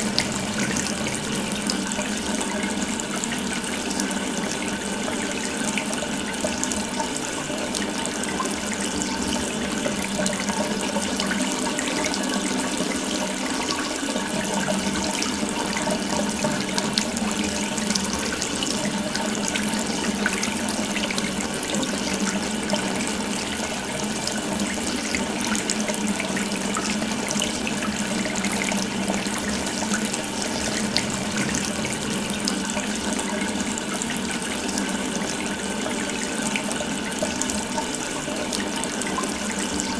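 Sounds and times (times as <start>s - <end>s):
water tap running: 0.0s - 39.9s.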